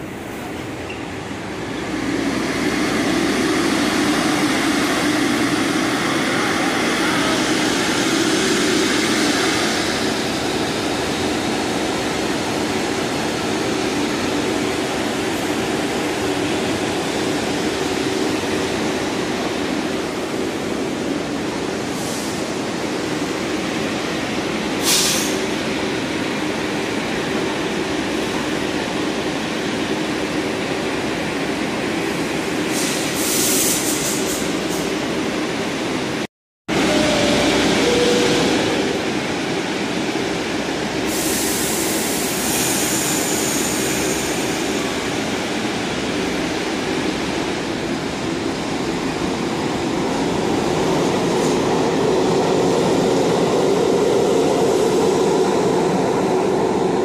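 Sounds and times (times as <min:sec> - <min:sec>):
subway train humming: 0:00.0 - 0:57.0.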